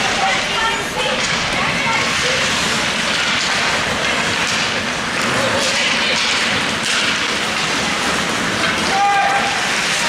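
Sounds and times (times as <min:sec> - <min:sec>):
skates on ice: 0:00.0 - 0:10.0
spectators' voices: 0:00.0 - 0:10.0.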